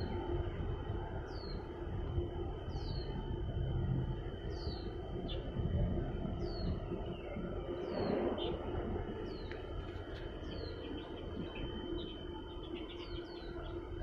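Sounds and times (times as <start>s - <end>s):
faint hum: 0.0s - 14.0s
low outdoor rumble: 0.0s - 14.0s.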